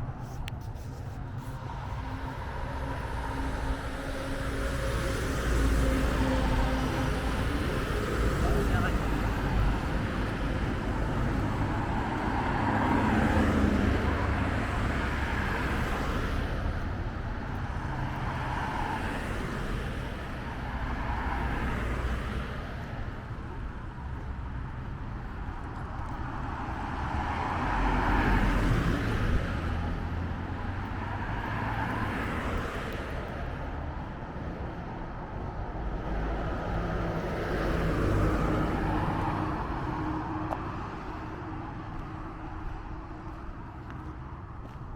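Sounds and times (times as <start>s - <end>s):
cars passing with low rumble: 0.0s - 44.9s.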